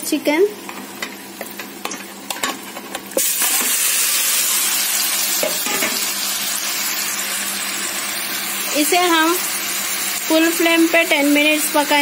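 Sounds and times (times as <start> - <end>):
meat sizzling in oil: 0.1 - 12.0.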